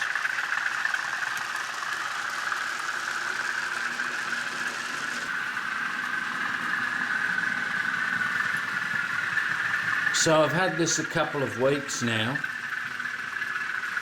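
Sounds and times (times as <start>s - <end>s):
recorded diesel engine sound: 0.0s - 14.0s.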